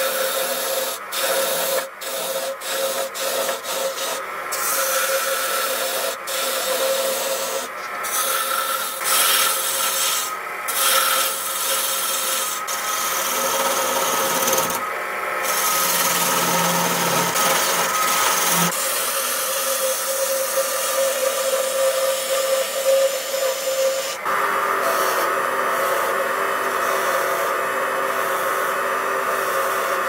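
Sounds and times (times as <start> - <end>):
lathe humming: 0.0 - 30.0
lathe tool scraping wood: 0.0 - 30.0.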